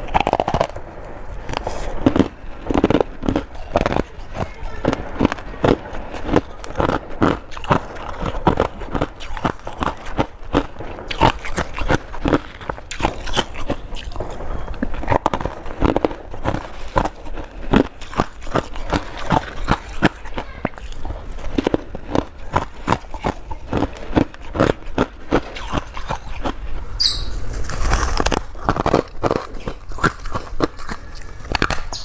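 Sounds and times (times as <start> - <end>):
frost being chewed with crunches: 0.0 - 32.0.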